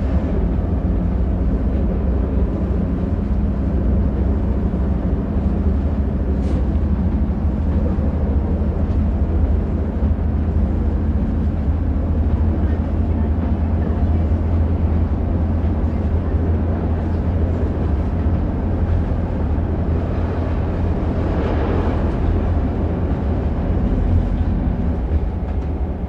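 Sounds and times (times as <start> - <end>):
diesel railcar engine rumble: 0.0 - 26.0
rush of noise: 0.0 - 26.0.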